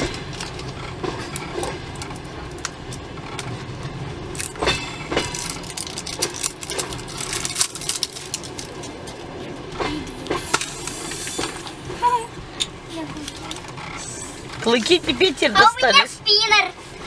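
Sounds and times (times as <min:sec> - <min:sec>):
train carriage rumble: 0:00.0 - 0:17.0.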